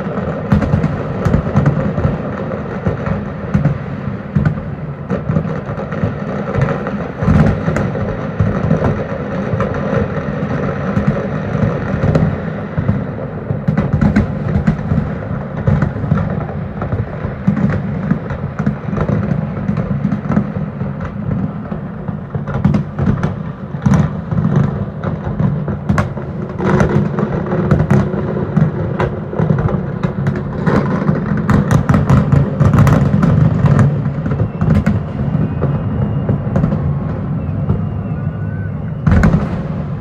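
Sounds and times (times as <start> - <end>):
distant fireworks booms: 0.0 - 40.0
fireworks cracks and pops: 0.0 - 40.0.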